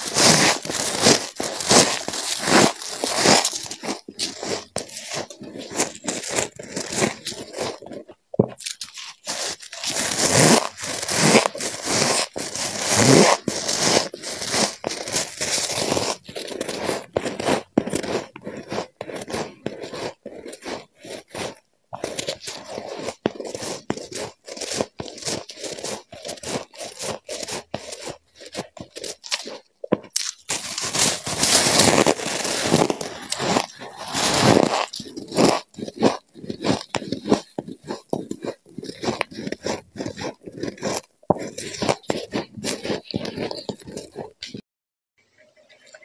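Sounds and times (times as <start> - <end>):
crisp crunching of frost chewed: 0.0 - 44.6.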